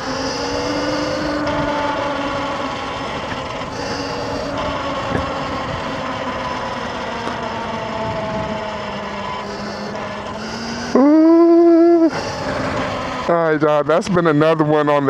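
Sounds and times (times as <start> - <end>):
dirt bike engine running: 0.0 - 6.6, 7.2 - 13.5.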